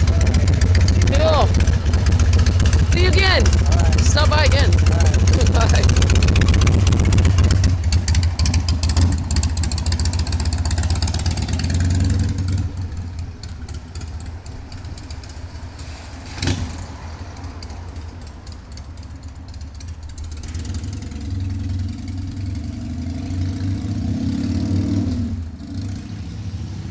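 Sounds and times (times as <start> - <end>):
motor trike engine: 0.0 - 26.9.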